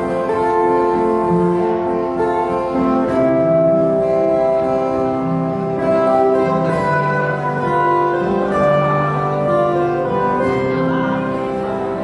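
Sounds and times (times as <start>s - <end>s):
acoustic guitar band ballad: 0.0s - 12.0s.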